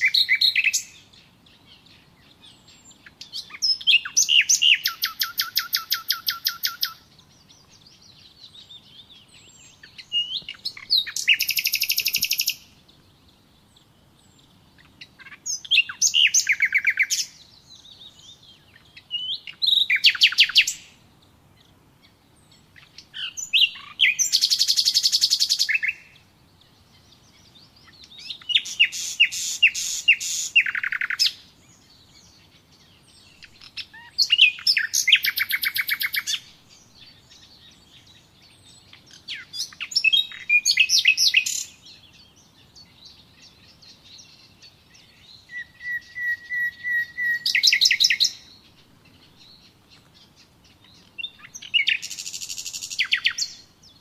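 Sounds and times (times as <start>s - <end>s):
songbird chirps and trill: 0.0s - 54.0s.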